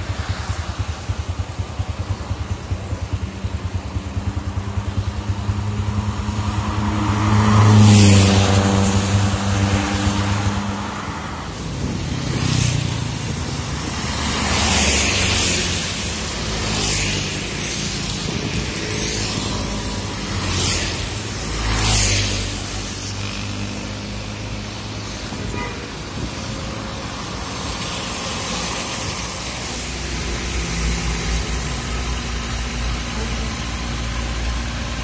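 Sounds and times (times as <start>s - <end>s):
tyres hissing on wet road: 0.0s - 4.0s, 4.7s - 35.0s.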